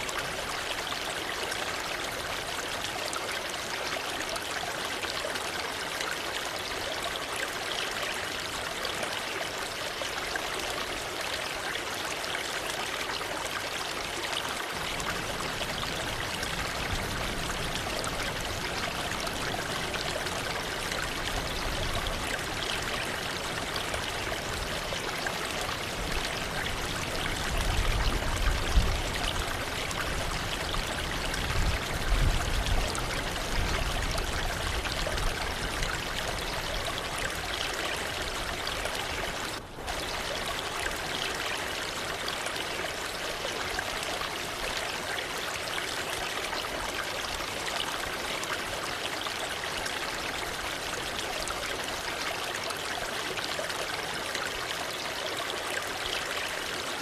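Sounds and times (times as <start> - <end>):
waterfall rushing and splashing: 0.0 - 57.0.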